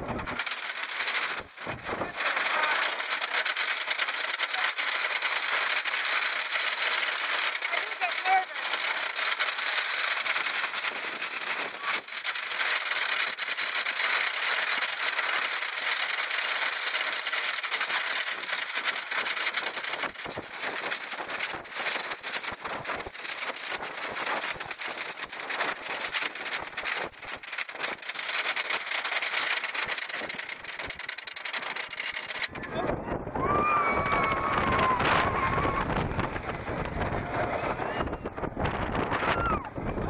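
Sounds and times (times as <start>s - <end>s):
roller coaster chain lift clattering: 0.0s - 40.0s.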